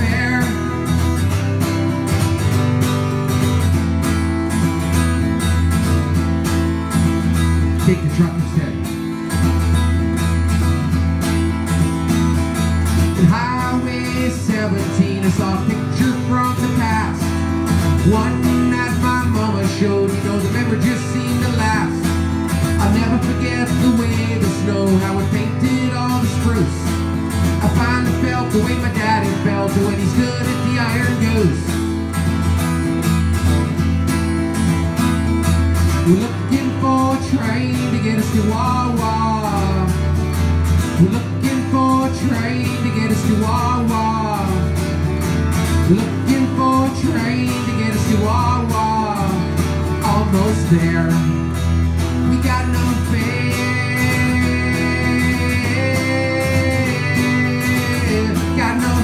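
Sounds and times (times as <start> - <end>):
man singing: 0.0 - 2.5, 7.4 - 9.6, 12.8 - 32.1, 35.8 - 59.0
acoustic guitar strumming: 0.0 - 59.0.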